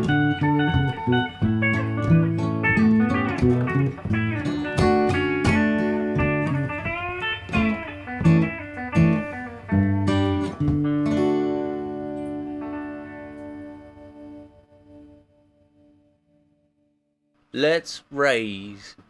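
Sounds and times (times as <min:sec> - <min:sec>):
country guitar lead: 0:00.0 - 0:16.2.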